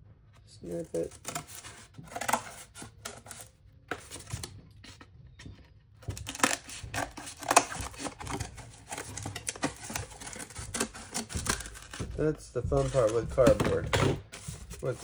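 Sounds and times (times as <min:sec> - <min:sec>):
cardboard crackling: 0:00.6 - 0:15.0.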